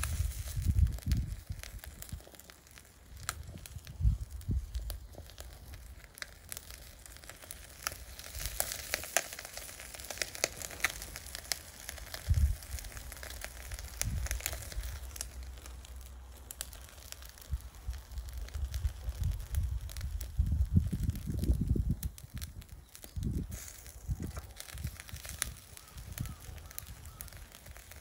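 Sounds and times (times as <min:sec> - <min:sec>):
coals crackling and popping: 0:00.0 - 0:28.0
fish sizzling on a grill: 0:00.0 - 0:28.0.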